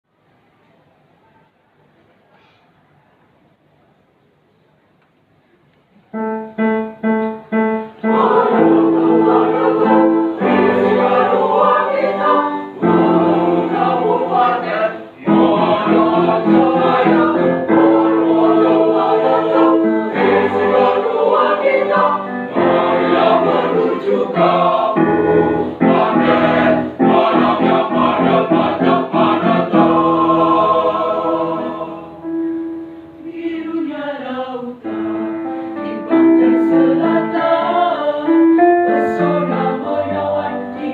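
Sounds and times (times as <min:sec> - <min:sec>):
piano accompaniment: 0:06.1 - 0:33.7, 0:34.8 - 0:40.9
choir singing in harmony: 0:07.5 - 0:40.9.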